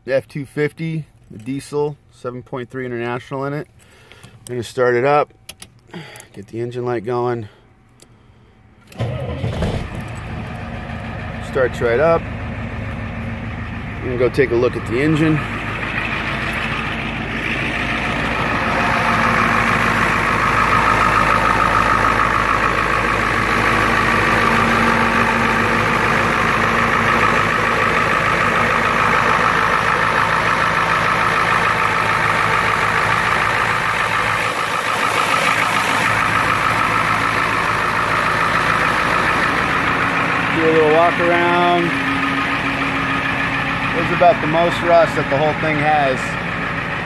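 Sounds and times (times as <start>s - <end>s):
diesel engine idling: 7.4s - 47.0s.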